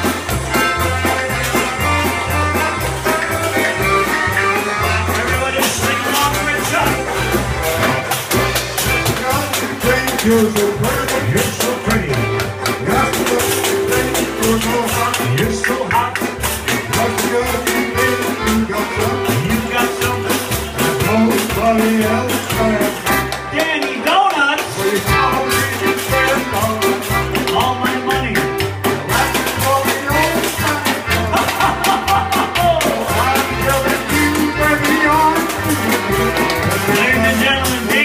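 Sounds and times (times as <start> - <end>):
accordion melody: 0.0 - 38.0
oom-pah bass: 0.0 - 38.0.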